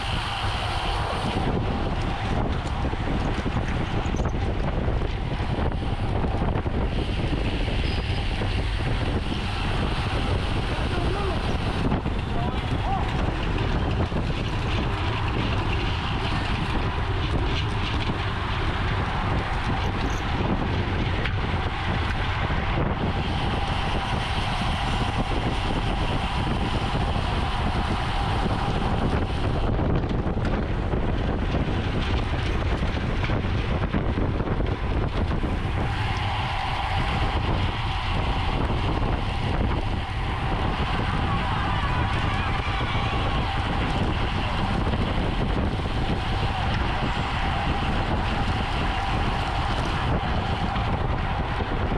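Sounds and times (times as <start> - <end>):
tyres rumbling on road: 0.0 - 51.9
wind rushing over microphone: 0.0 - 51.9.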